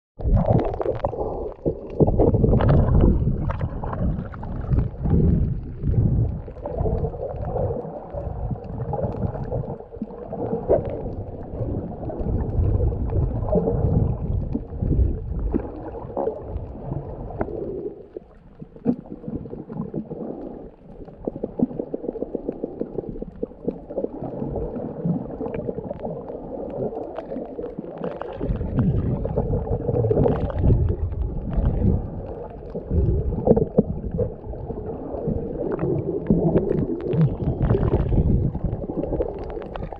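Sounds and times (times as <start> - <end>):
muffled underwater water sloshing: 0.2 - 39.9.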